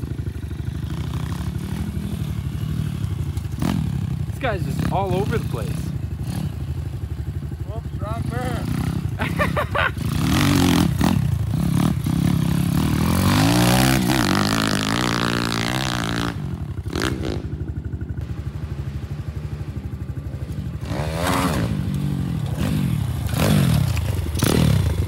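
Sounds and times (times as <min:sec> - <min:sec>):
pit bike engine revving: 0:00.0 - 0:25.0.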